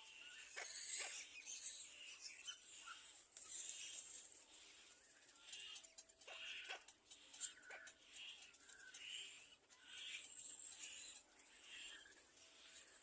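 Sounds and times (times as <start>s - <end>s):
baby birds cheeping: 0.0s - 13.0s.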